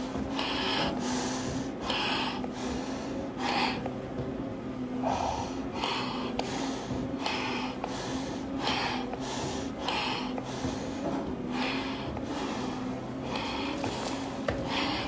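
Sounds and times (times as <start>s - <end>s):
fast breathing through mask: 0.0s - 4.0s, 5.0s - 15.0s.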